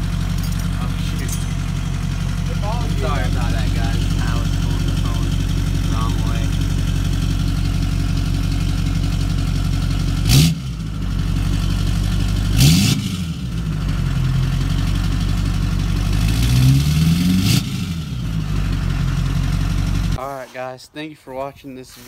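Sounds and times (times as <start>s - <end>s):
diesel engine idling and revving: 0.0s - 20.3s.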